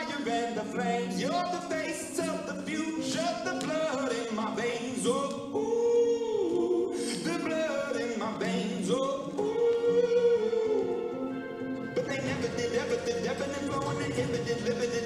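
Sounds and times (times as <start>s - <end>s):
song with sung vocals: 0.0s - 15.0s.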